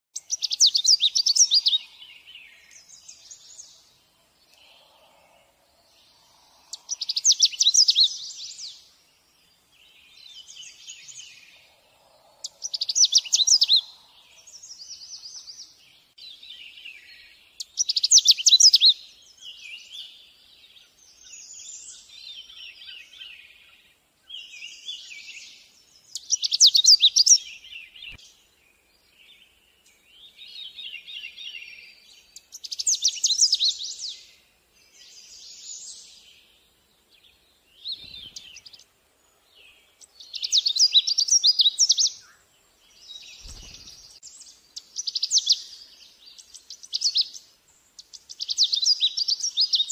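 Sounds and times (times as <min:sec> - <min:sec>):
bird singing chattering song: 0:00.2 - 0:11.7, 0:12.4 - 0:23.6, 0:24.3 - 0:28.4, 0:29.2 - 0:36.5, 0:37.1 - 0:49.9.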